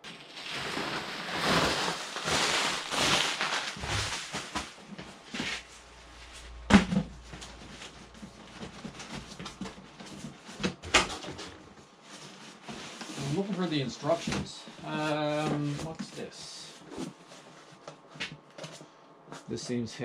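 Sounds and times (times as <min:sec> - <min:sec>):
cardboard rustling and scraping: 0:00.0 - 0:19.8.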